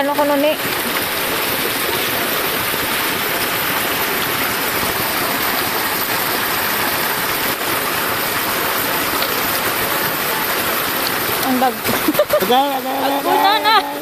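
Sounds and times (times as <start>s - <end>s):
stream pouring over rocks: 0.0s - 14.0s.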